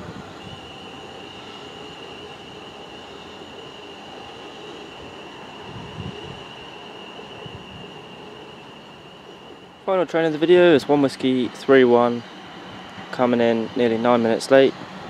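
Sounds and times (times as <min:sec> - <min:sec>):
high-pitched train squeal: 0:00.0 - 0:15.0
train rumbling: 0:00.0 - 0:15.0.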